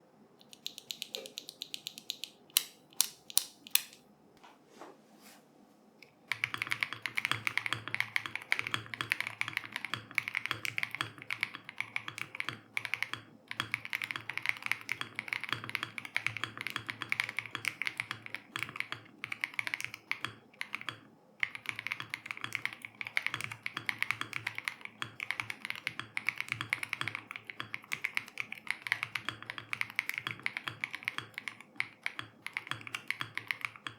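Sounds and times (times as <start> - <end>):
typing on mechanical keyboard: 0.4 - 4.0, 6.3 - 33.9.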